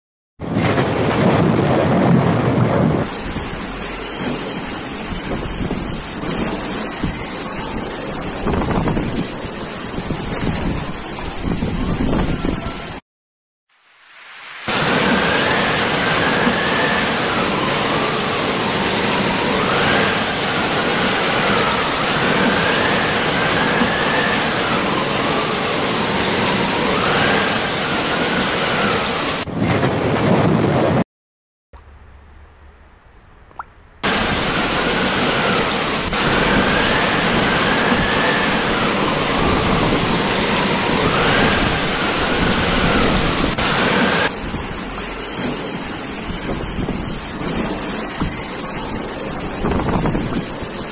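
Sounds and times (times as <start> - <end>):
heavy rain: 0.4 - 13.0, 13.7 - 31.0, 34.0 - 50.9
rushing floodwater: 0.4 - 13.0, 13.8 - 30.0, 34.0 - 50.9.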